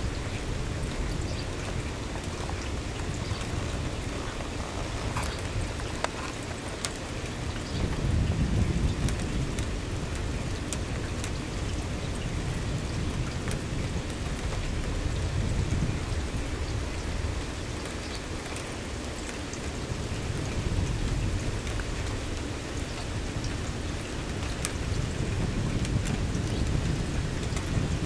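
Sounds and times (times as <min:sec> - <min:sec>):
rain drops ticking: 0:00.0 - 0:28.0
rain falling: 0:00.0 - 0:28.0.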